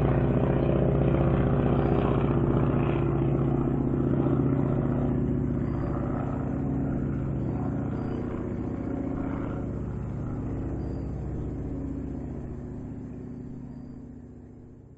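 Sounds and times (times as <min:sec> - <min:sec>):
propeller airplane engine: 0:00.0 - 0:14.9.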